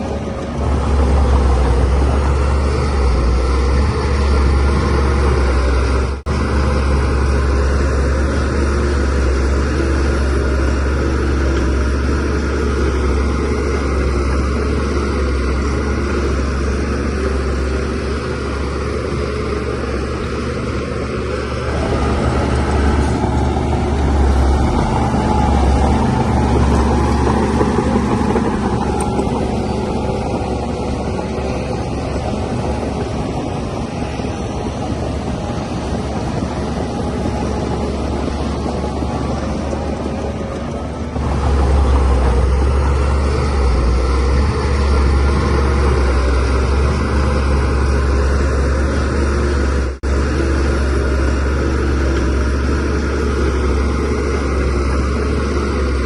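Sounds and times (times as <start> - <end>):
bulldozer diesel engine droning: 0.0 - 56.0.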